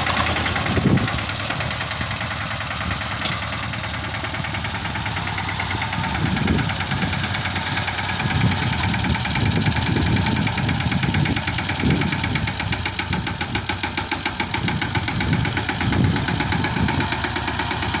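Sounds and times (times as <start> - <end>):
tractor diesel engine knocking: 0.0 - 18.0.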